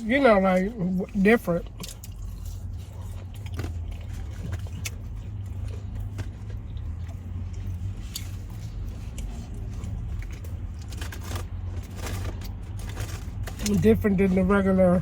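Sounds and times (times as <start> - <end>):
chewing and mouth sounds: 0.0 - 14.6
steady low hum: 0.0 - 15.0.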